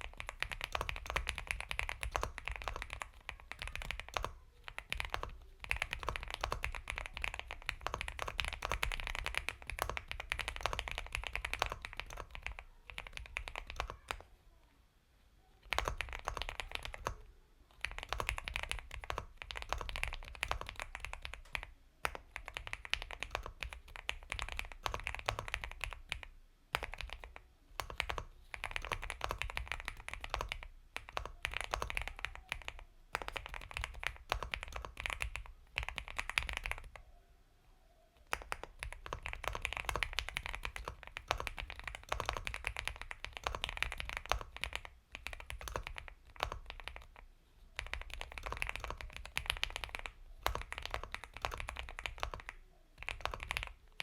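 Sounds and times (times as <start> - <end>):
mechanical keyboard typing: 0.0 - 14.3, 15.6 - 37.0, 38.2 - 47.2, 47.8 - 54.0.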